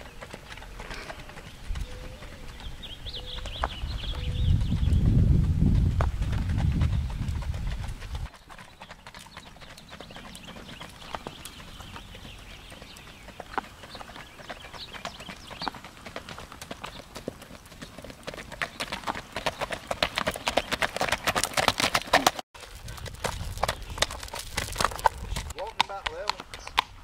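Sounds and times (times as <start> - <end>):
hoofbeats on gravel: 0.0 - 27.0.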